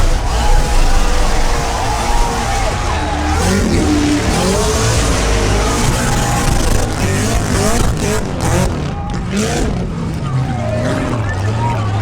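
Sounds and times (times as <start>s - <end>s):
car engine revving: 0.0s - 12.0s
spinning tyres rushing noise: 0.0s - 12.0s.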